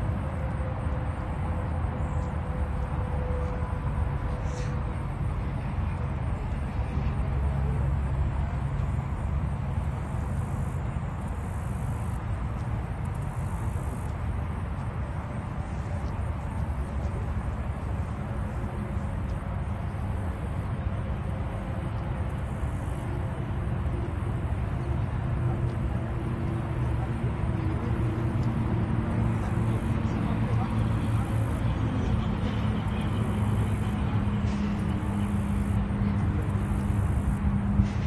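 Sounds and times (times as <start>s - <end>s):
low outdoor rumble: 0.0s - 38.0s.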